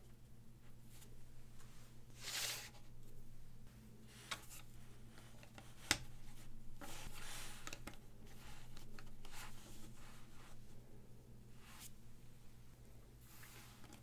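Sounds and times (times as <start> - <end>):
steady low hum: 0.0 - 14.0
soft rubbing: 0.6 - 10.9, 11.5 - 14.0.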